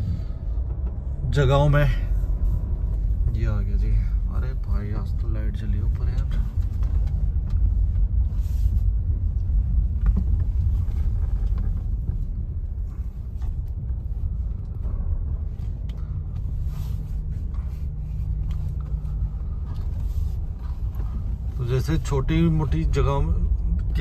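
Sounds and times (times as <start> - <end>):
low hum: 0.0 - 24.0
vehicle engine and tyres rumbling: 0.0 - 24.0.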